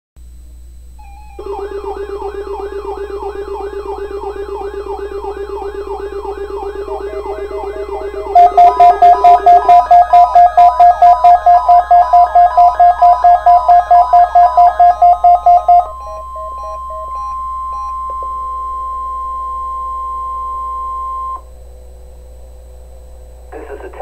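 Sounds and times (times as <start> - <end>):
electronic alarm beeping rapidly: 1.0 - 21.4
steady warning alarm tone: 1.0 - 21.5.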